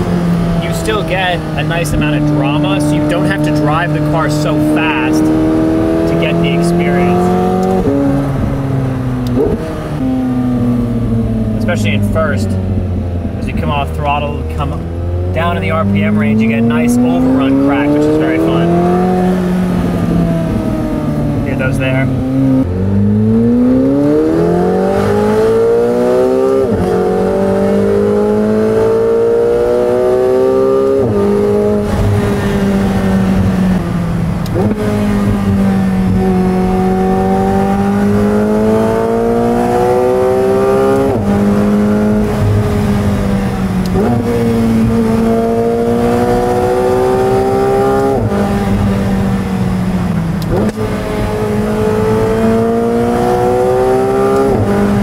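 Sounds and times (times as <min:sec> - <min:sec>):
sports car accelerating through gears: 0:00.0 - 0:55.0.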